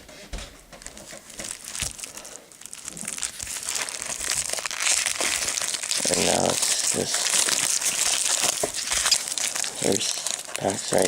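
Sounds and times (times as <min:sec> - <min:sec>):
packaging crinkling: 0:00.7 - 0:11.0.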